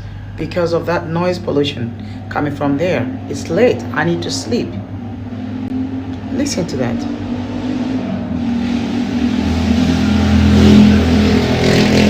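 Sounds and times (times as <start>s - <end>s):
vehicle engine revving: 2.1s - 12.0s.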